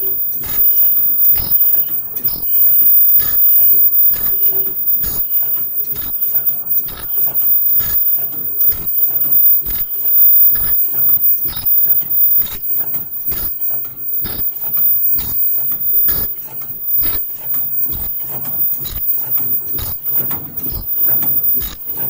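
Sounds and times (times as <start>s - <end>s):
low machine hum: 0.0s - 22.0s
machine clacks and clicks: 0.0s - 22.0s.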